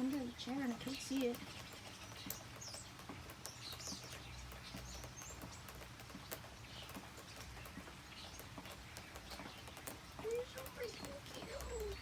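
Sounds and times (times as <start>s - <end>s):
drips and taps: 0.0s - 12.0s
rain falling: 0.0s - 12.0s.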